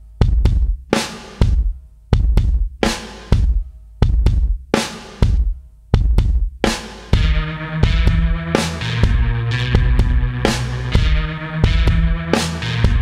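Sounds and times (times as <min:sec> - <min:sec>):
music with drum-kit beat: 0:00.0 - 0:13.0.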